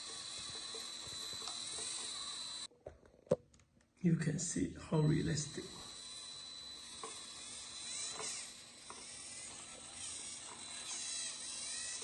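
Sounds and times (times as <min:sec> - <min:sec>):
electric motor and gears whining: 0:00.0 - 0:02.7, 0:04.6 - 0:12.0.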